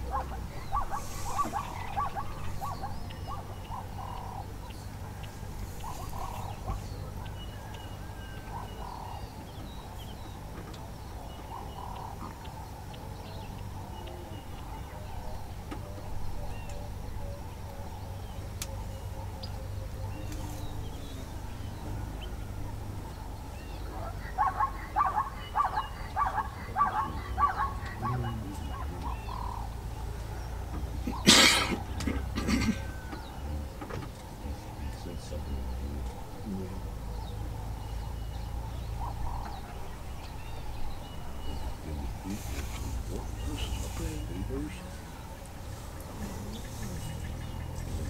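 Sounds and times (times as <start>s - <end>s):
steady low rumble: 0.0s - 48.0s
wild birds chirping: 0.0s - 48.0s.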